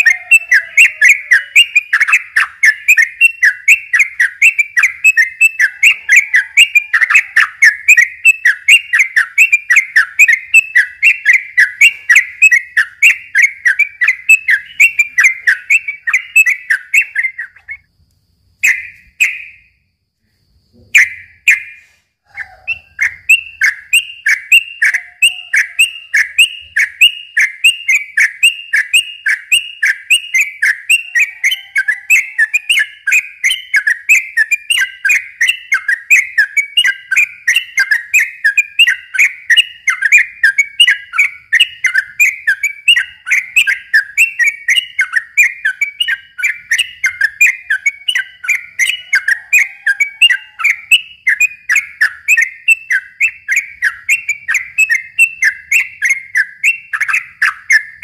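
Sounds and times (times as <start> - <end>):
bulbul singing whistled notes: 0.0 - 19.9, 20.6 - 58.0.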